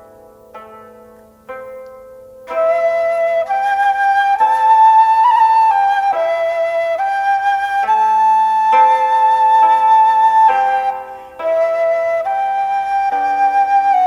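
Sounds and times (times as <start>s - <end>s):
slow melody of held notes: 0.0s - 14.0s.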